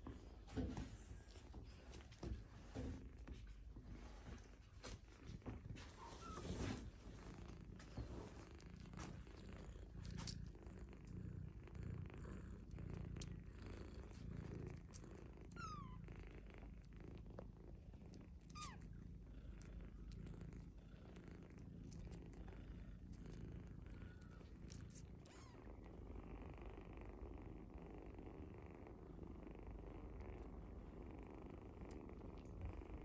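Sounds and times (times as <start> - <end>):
cats purring: 0.0 - 33.0.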